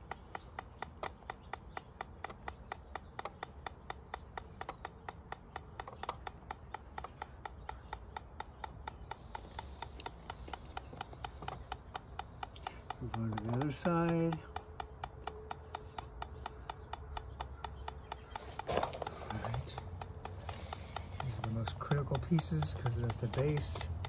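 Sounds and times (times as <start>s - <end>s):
gas detector ticking: 0.0s - 24.0s.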